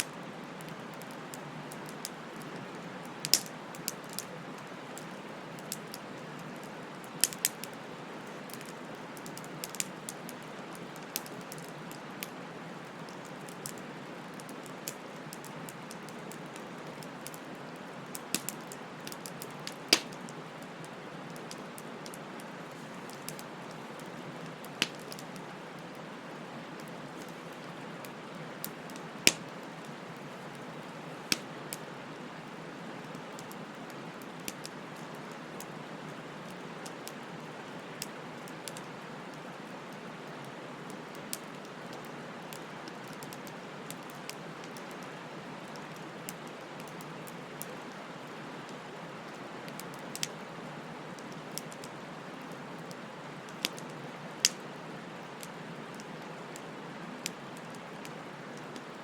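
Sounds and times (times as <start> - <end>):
bonfire flames hissing: 0.0 - 59.0
burning wood crackling and popping: 0.0 - 59.0.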